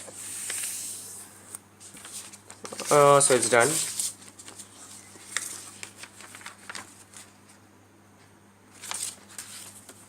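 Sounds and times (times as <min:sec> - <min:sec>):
paper rustling and crinkling: 0:00.0 - 0:01.1, 0:01.8 - 0:07.6, 0:08.7 - 0:10.0.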